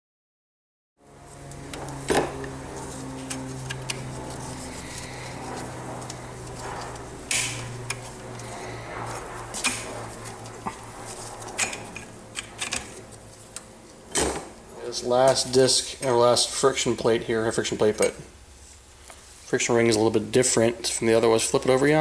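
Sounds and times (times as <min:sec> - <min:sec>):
steady low hum: 0:01.0 - 0:22.0.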